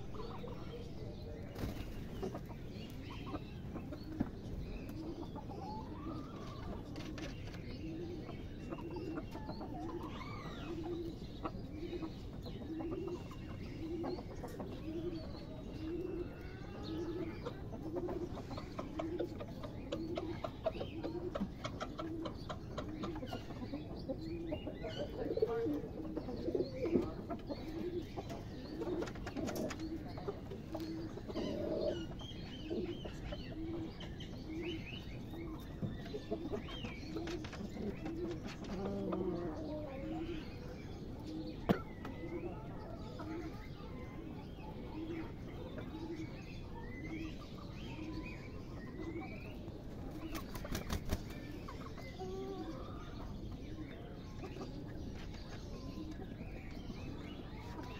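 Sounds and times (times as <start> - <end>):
pigeons cooing: 0.0 - 57.9
small birds chirping faintly: 0.0 - 57.9.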